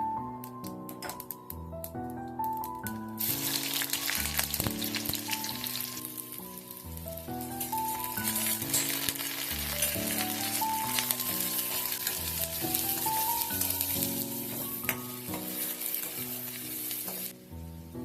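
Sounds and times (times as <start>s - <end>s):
soft background music: 0.0s - 18.0s
food sizzling in oil: 3.2s - 17.6s.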